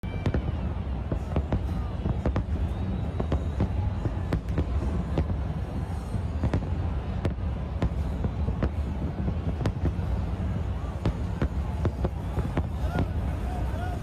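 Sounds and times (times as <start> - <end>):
firework bangs and cracks: 0.0 - 14.0
fireworks low rumble: 0.0 - 14.0.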